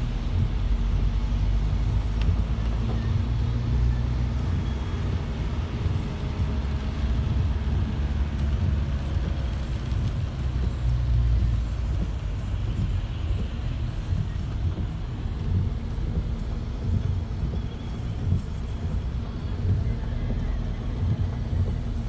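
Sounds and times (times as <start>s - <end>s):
car engine rumble: 0.0s - 22.0s
tyres on wet road: 0.0s - 22.0s.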